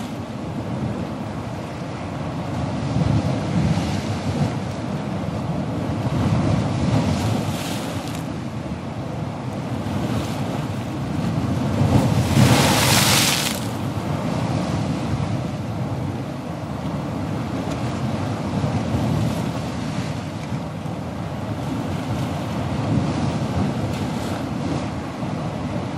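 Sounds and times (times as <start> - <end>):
ocean waves breaking: 0.0 - 25.9.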